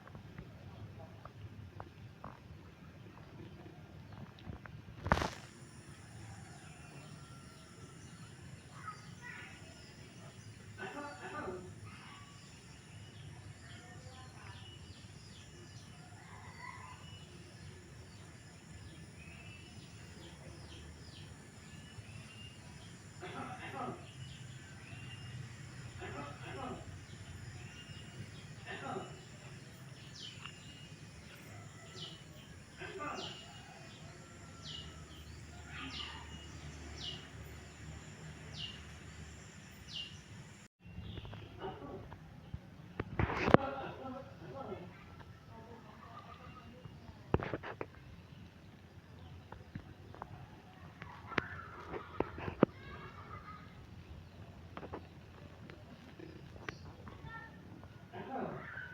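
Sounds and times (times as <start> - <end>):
small birds chirping: 0.5 - 44.0, 44.6 - 58.9.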